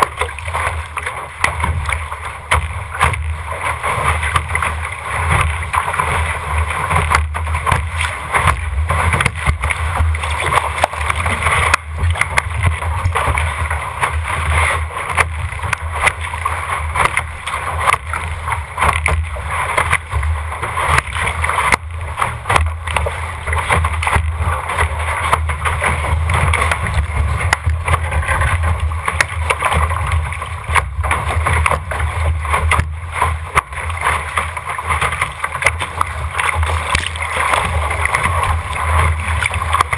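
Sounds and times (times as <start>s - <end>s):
water splashing along a hull: 0.0s - 39.9s
wind rumble on microphone: 0.0s - 39.9s.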